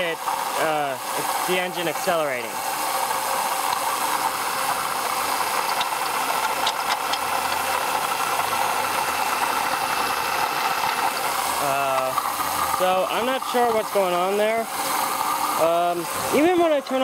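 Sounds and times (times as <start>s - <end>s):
grinding noise in engine: 0.0s - 17.0s
car engine running: 2.2s - 17.0s.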